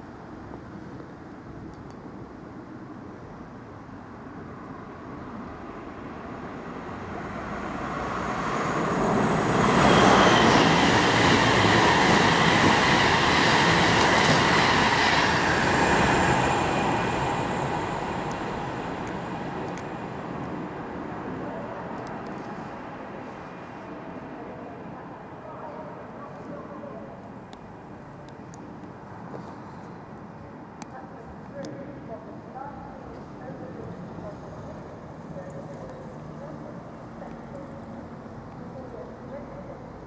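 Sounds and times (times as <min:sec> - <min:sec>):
freight train passing: 0:03.7 - 0:40.0.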